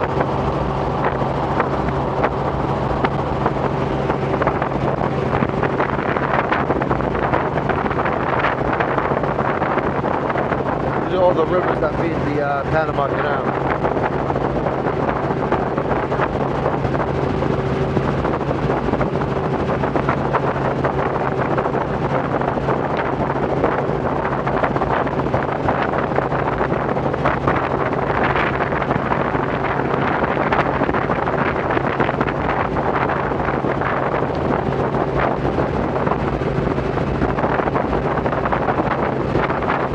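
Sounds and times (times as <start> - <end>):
helicopter engine and rotor drone: 0.0 - 39.9
rushing wind noise: 0.0 - 39.9.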